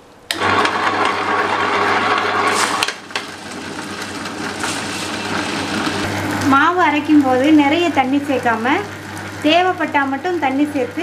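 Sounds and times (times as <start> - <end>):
wet grinder humming: 0.3 - 11.0.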